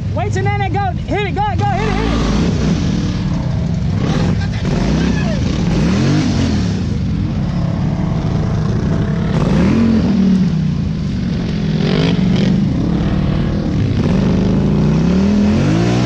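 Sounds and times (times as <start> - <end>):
quad bike engine revving: 1.6 - 16.0.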